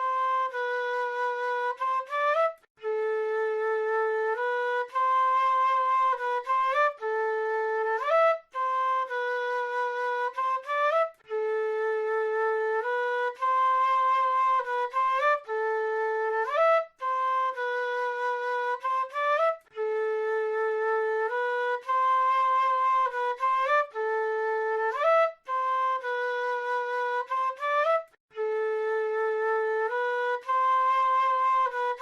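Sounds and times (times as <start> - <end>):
solo flute melody: 0.0 - 32.0.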